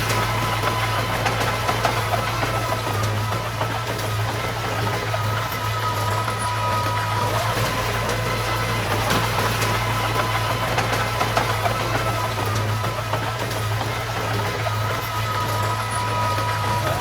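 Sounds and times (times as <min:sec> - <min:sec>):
heavy machine engine droning: 0:00.0 - 0:17.0.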